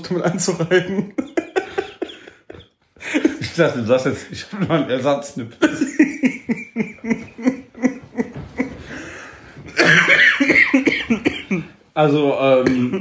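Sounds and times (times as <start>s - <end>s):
men laughing: 0.1s - 3.9s, 4.5s - 11.8s.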